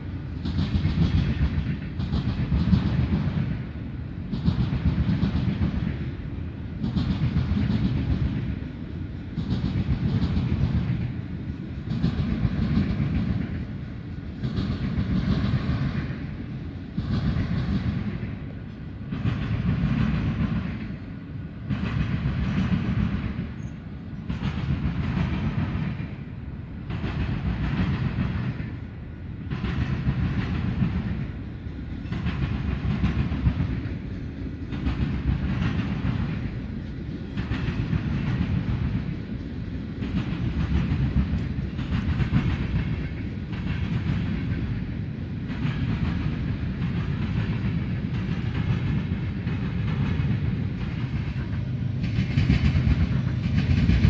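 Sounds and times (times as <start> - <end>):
freight train wheels clicking: 0.0 - 54.0.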